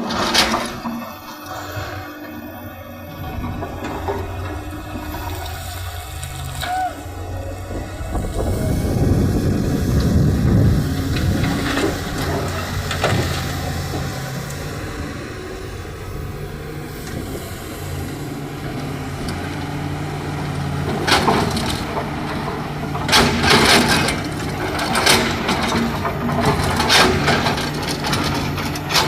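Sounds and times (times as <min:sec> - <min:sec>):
diesel engine running under load: 0:00.0 - 0:29.0
soil and stones crunching: 0:00.0 - 0:29.0.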